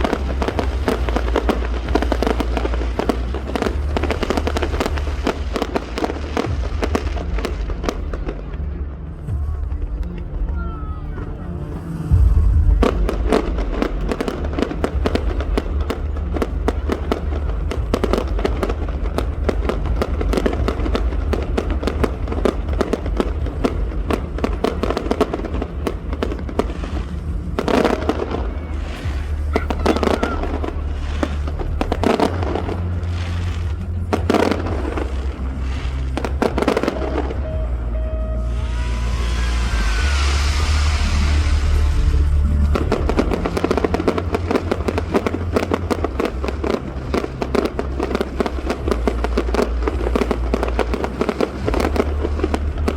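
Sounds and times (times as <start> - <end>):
heavy firework bursts: 0.0 - 11.2, 11.9 - 52.9
fireworks bangs and crackles: 0.0 - 52.9
low rumble: 0.0 - 52.9.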